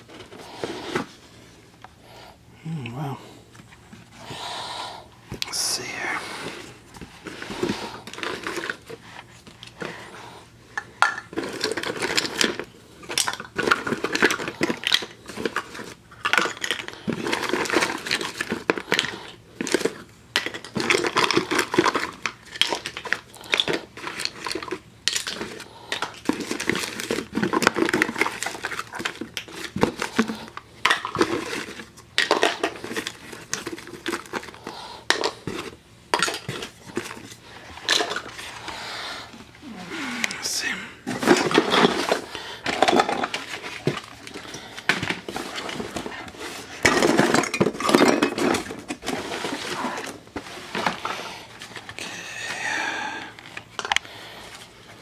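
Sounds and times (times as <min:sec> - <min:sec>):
cardboard and wrappers rustling: 0:00.0 - 0:01.8, 0:05.2 - 0:52.6
plastic containers and toys clattering: 0:05.3 - 0:39.6, 0:40.2 - 0:55.0.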